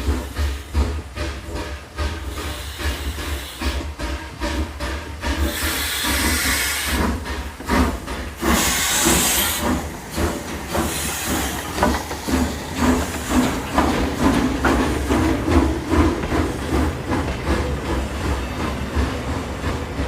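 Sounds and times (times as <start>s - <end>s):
steam hiss bursts: 0.0s - 16.8s
steam locomotive chuffing: 0.0s - 20.0s.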